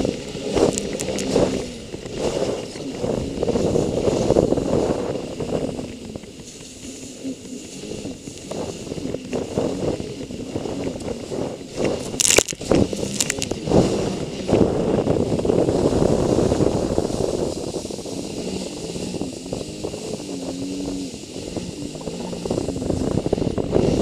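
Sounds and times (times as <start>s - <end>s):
personal watercraft engine: 0.0s - 24.0s
rush of water and wind: 0.0s - 24.0s.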